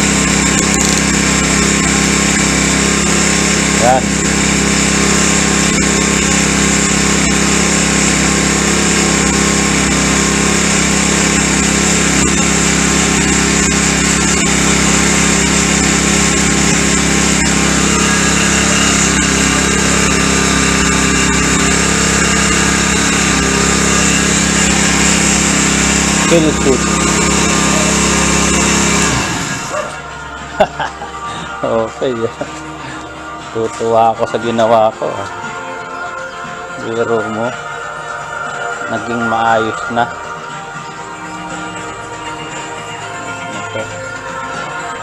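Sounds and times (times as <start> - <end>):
small motor droning: 0.0 - 45.0.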